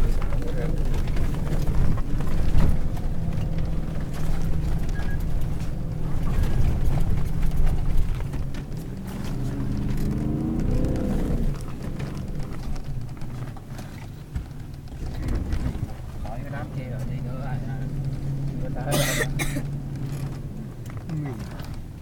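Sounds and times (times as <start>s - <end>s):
car engine hum inside cabin: 0.0s - 22.0s.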